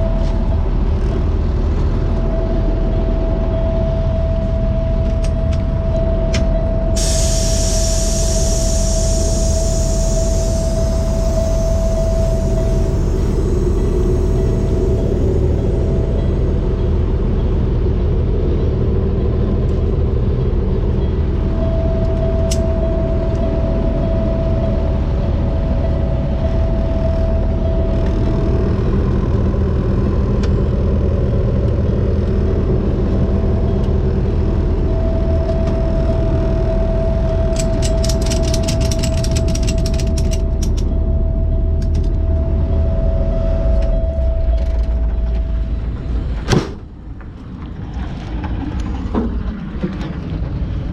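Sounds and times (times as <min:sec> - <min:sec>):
whining tone: 0:00.0 - 0:20.0, 0:20.6 - 0:46.5
diesel truck engine droning: 0:00.0 - 0:50.9.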